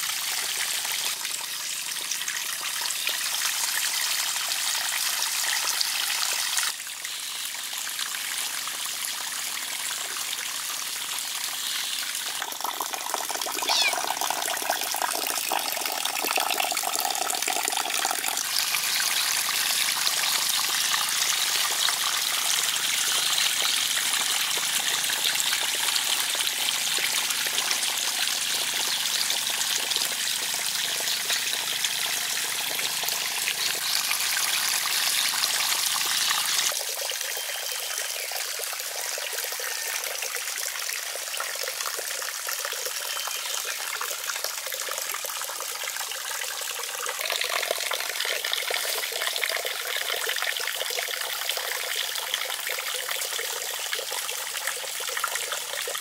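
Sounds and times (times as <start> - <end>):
fountain water pouring into pond: 0.0 - 56.0.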